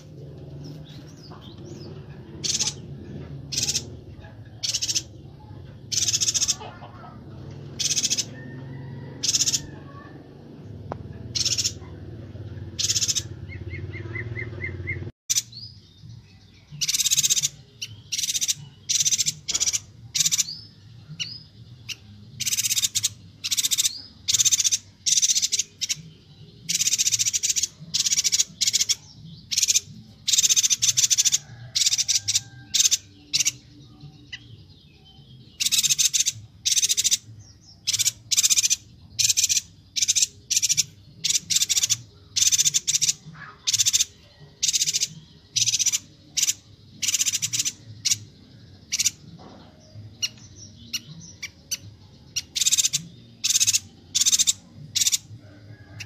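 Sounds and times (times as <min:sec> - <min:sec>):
high-pitched bird chirps: 0:00.0 - 0:56.0.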